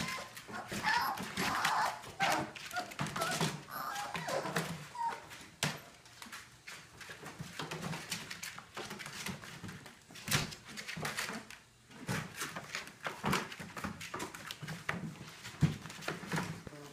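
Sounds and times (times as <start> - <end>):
puppies scratching and scuffling: 0.0 - 16.9.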